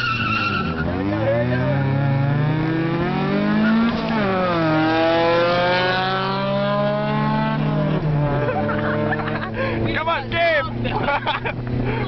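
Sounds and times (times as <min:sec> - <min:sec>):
car engines revving at full throttle: 0:00.0 - 0:12.0.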